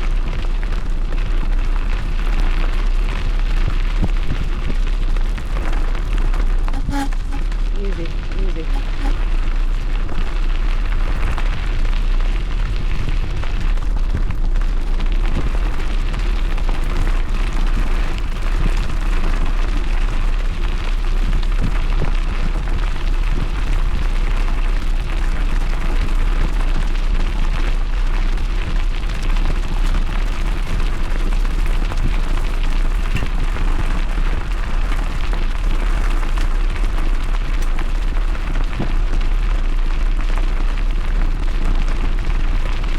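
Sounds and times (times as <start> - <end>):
bike tyres rolling over trail: 0.0 - 42.9.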